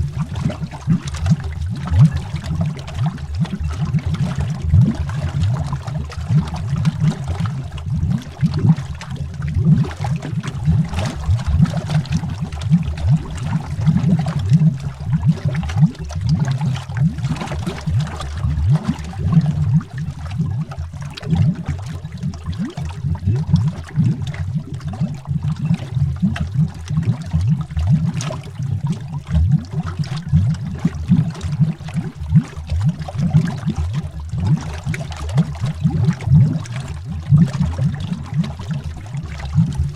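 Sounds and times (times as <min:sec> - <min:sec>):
water bubbling underwater: 0:00.0 - 0:39.9.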